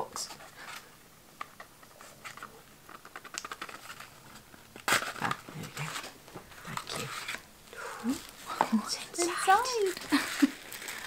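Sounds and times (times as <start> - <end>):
wrapping paper crinkling: 1.8 - 11.0.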